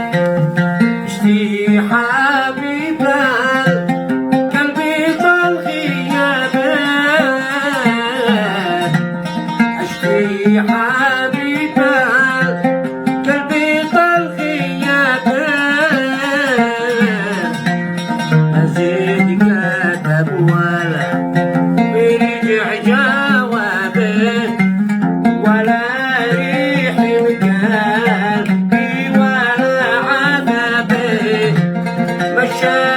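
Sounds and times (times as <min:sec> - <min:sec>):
plucked string accompaniment: 0:00.0 - 0:32.9
person singing ornamented melody: 0:01.0 - 0:24.7, 0:25.4 - 0:32.9.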